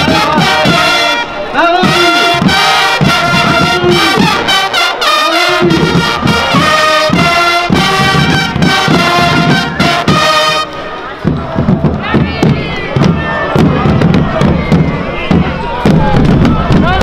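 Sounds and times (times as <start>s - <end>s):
marching band playing a march: 0.0s - 17.0s
steady drumbeat: 0.0s - 17.0s.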